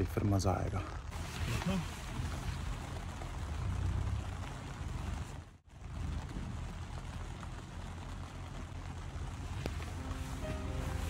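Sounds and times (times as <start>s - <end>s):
heavy rain on a tent: 0.0s - 11.0s.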